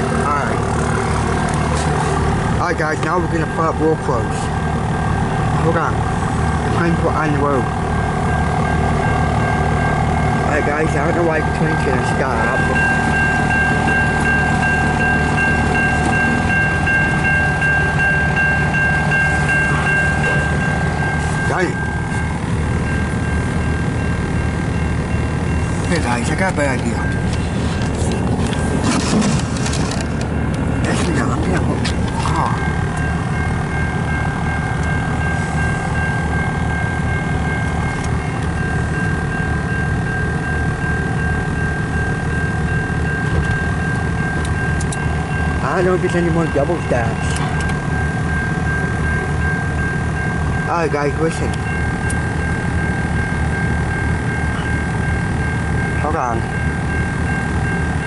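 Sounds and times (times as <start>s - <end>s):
rapidly pulsing higher tone: 0.0s - 50.7s
car engine idling: 0.0s - 58.0s
freight train rumbling: 0.0s - 58.0s
high-pitched whine: 0.0s - 58.0s
steady high-pitched tone: 0.0s - 58.0s.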